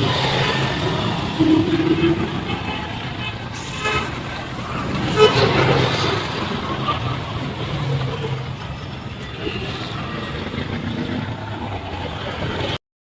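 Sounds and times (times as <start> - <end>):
road traffic rumble: 0.0 - 12.8.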